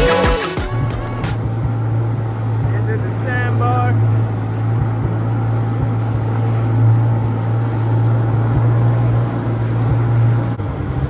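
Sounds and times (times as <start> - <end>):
jet ski engine drone: 0.0 - 11.0.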